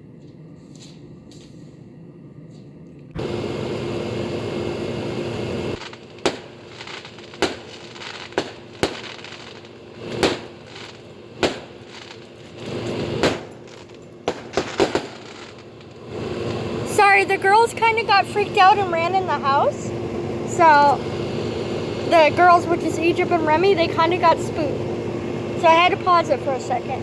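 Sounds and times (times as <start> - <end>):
low outdoor hum: 0.0 - 27.0
fireworks bangs: 3.2 - 26.8.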